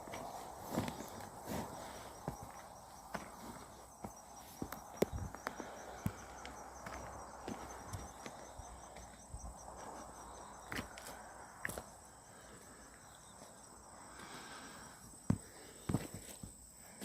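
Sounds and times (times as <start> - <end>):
insects trilling: 0.0 - 17.0
pulsing insect chirp: 0.0 - 17.0.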